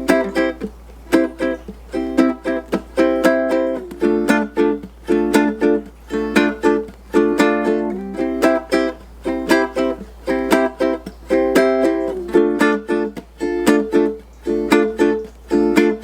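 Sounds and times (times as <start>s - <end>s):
ukulele strumming: 0.0s - 16.0s.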